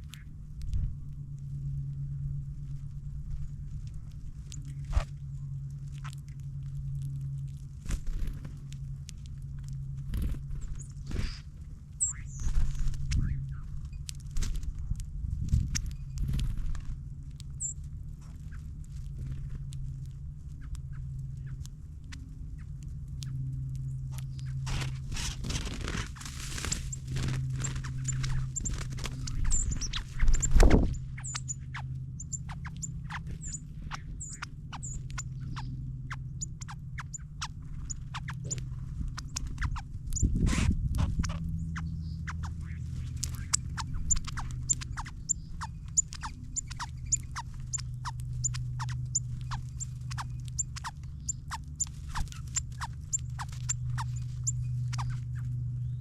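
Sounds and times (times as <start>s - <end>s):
birds pecking clicks: 0.0s - 56.0s
steady low hum: 0.0s - 56.0s.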